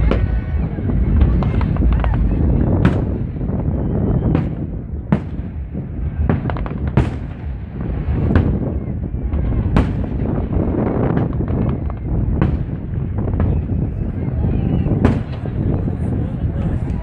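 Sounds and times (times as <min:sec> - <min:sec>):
firework crackles: 0:00.0 - 0:17.0
low rumble of booms: 0:00.0 - 0:17.0.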